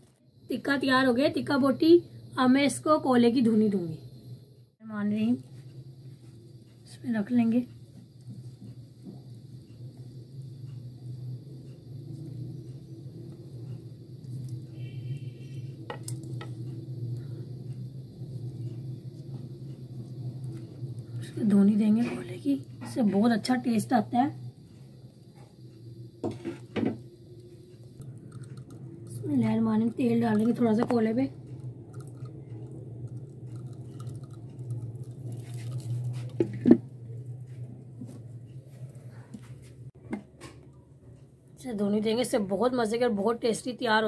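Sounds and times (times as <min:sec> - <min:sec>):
oil sizzling on hot charcoal: 0:00.0 - 0:38.0
steady low hum: 0:00.0 - 0:44.0.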